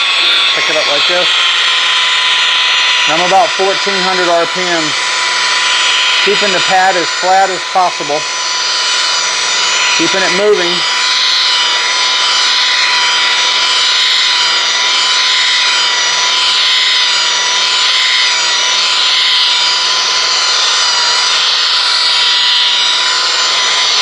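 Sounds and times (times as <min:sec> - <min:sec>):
electric polisher motor whine: 0:00.0 - 0:24.0.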